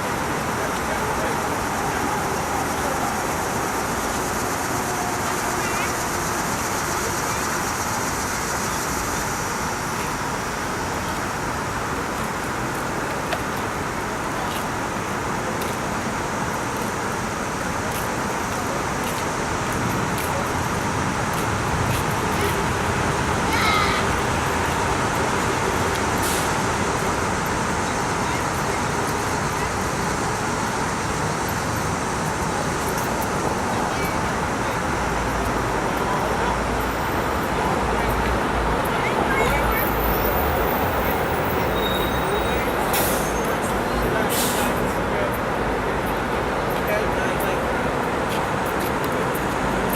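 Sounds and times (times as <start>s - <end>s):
heavy rain hissing: 0.0s - 48.6s.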